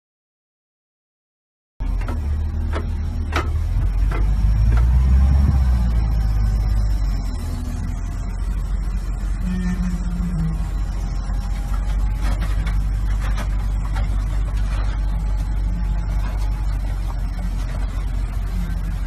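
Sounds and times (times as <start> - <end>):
diesel engine rumbling: 1.8 - 19.0.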